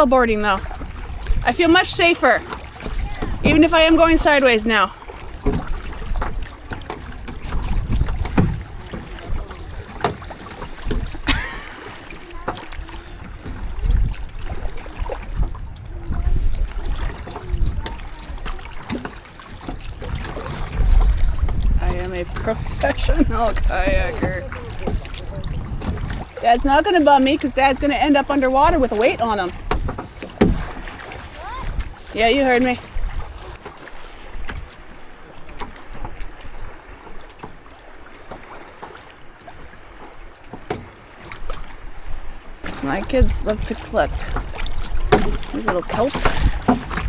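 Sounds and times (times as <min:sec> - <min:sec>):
wind rumbling on microphone: 0:00.0 - 0:35.0, 0:41.2 - 0:47.0
dripping and gurgling water: 0:00.0 - 0:47.0
water splashing around kayak: 0:00.0 - 0:47.0.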